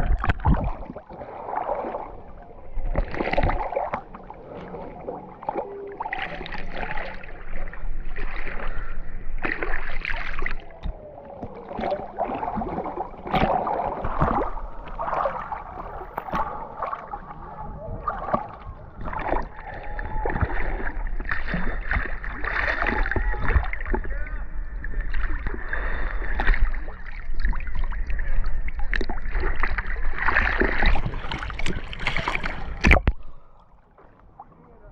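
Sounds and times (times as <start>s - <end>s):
paddle strokes splashing: 0.0s - 34.8s.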